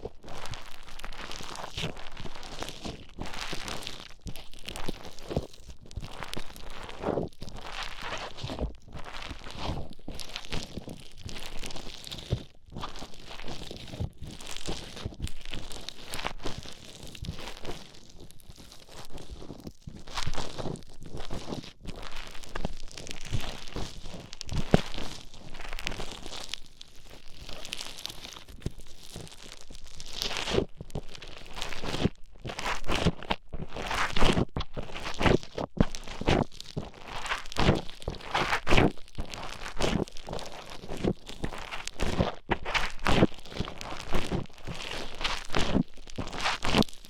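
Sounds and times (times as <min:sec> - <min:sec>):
foam beads crackling and crunching: 0:00.0 - 0:47.0.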